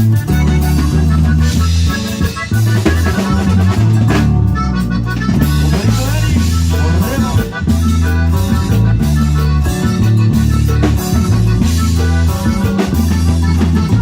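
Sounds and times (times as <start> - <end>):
band playing instrumental music: 0.0 - 14.0
bass guitar: 0.0 - 14.0
drum kit: 0.0 - 14.0.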